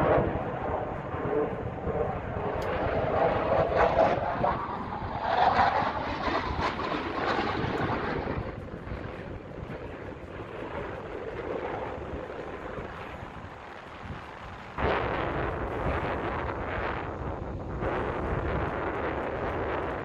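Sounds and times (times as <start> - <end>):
fighter jet rushing noise: 0.0 - 20.0.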